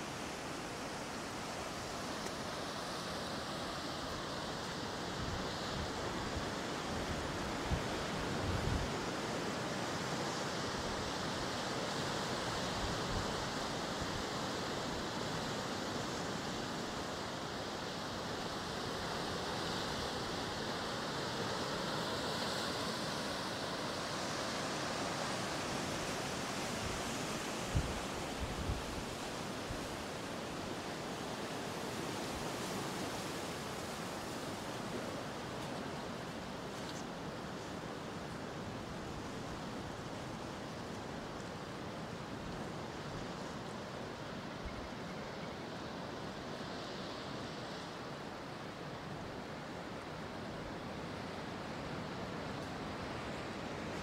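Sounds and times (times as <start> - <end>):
ocean surf: 0.0 - 54.0.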